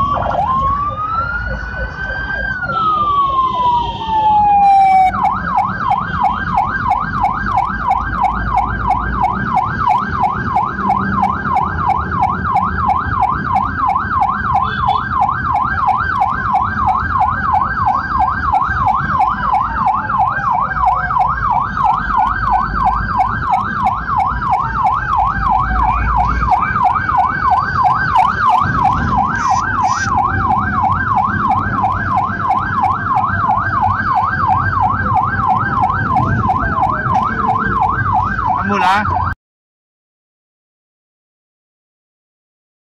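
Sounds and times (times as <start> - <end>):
engine and road rumble: 0.0 - 39.4
fast yelping siren: 0.0 - 39.4
slower wailing siren: 0.0 - 39.4.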